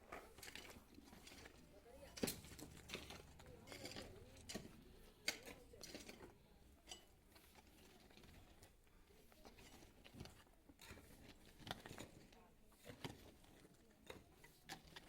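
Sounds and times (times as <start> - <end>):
faint clicks and knocks: 0.1 - 15.0.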